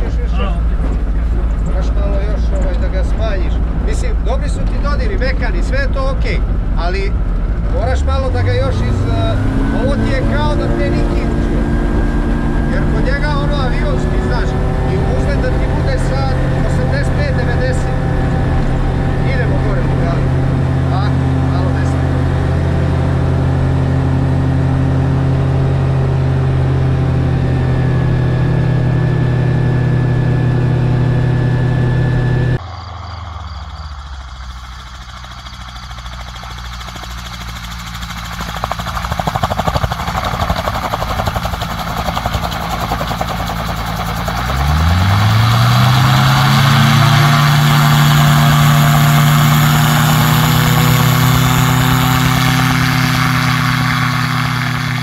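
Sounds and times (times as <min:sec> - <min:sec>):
aircraft engine revving to full power: 0:00.0 - 0:55.0
aircraft engine running: 0:00.0 - 0:55.0.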